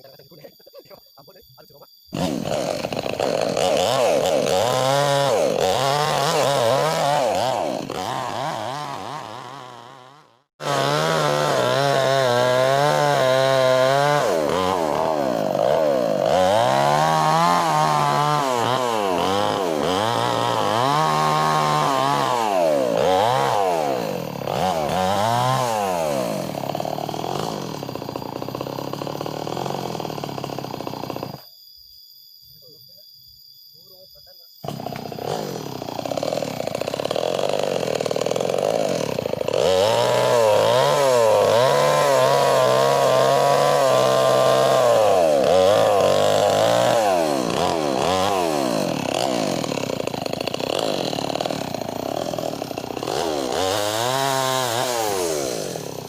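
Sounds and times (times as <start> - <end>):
chainsaw ripping a log: 2.1 - 31.4, 34.6 - 56.0.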